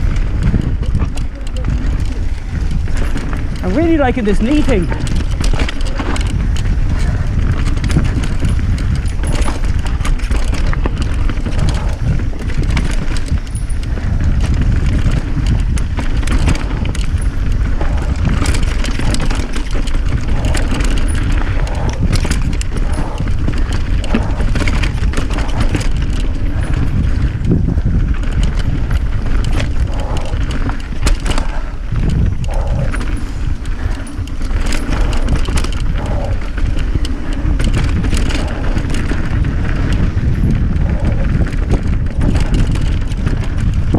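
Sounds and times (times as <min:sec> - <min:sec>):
bike tyres on dirt: 0:00.0 - 0:43.9
chain and frame rattling: 0:00.0 - 0:43.9
wind rumble on microphone: 0:00.0 - 0:43.9.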